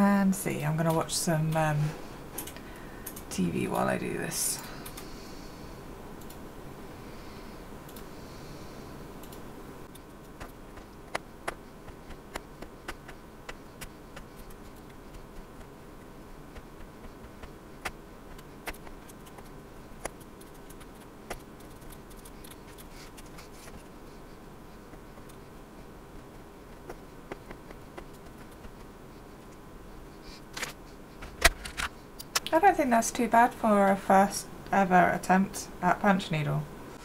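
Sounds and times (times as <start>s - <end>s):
faint steady background noise: 0.0s - 37.0s.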